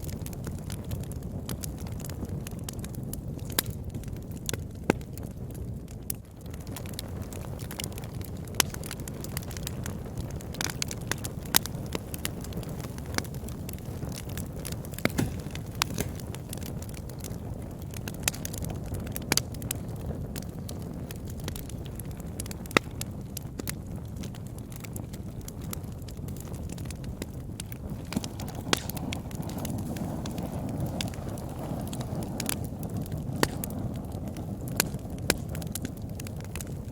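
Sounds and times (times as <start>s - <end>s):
fire crackling and popping: 0.0s - 36.9s.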